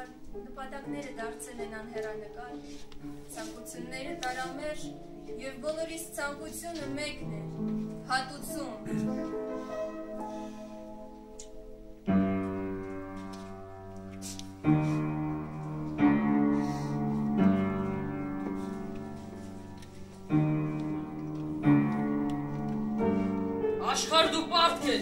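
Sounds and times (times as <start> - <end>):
slow solemn piano chords: 0.0 - 25.0.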